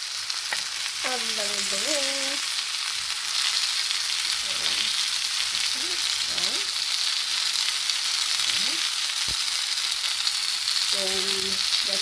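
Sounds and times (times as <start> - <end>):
sausages sizzling in a pan: 0.0 - 12.0.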